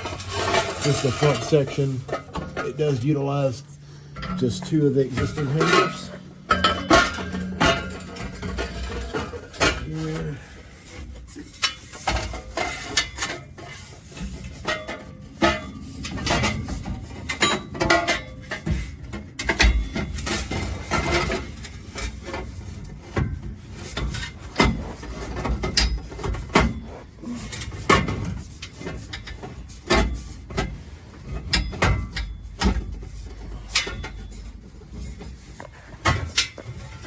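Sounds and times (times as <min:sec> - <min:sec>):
metal exhaust pipe clanking: 0:00.0 - 0:37.0.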